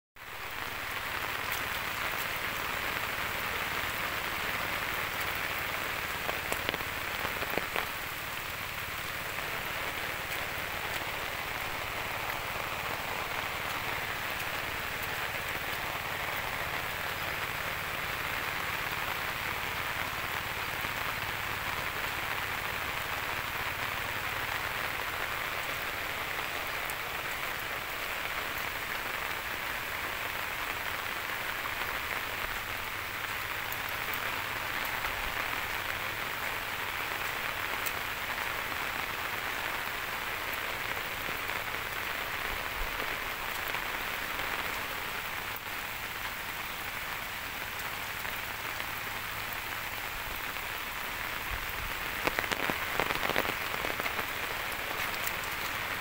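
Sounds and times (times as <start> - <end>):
steady rain falling: 0.2 - 56.0.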